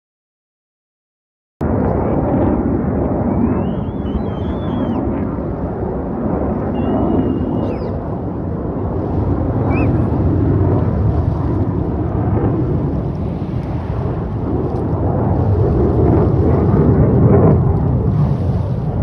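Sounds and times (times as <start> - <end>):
jet engines rumbling: 1.6 - 19.0.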